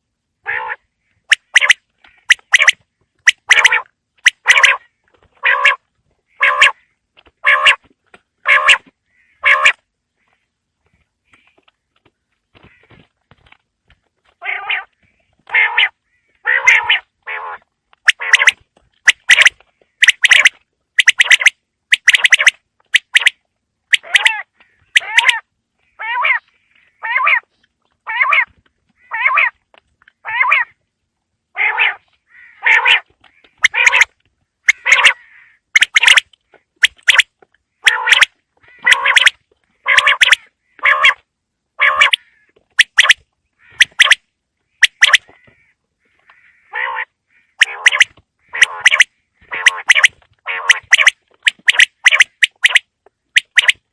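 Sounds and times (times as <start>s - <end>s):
quail calling: 0.4s - 10.4s, 14.4s - 29.6s, 30.2s - 30.8s, 31.6s - 53.8s.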